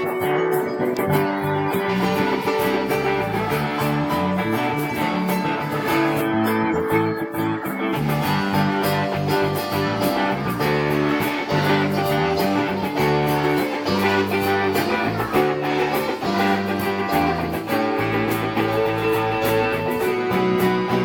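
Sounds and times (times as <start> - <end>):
guitars strumming: 0.0 - 21.0
bass line: 1.0 - 21.0.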